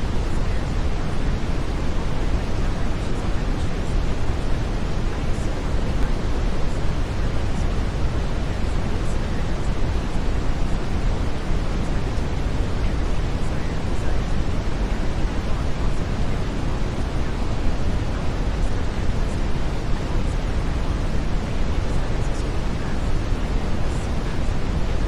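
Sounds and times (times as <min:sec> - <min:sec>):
deep steady hiss: 0:00.0 - 0:25.0.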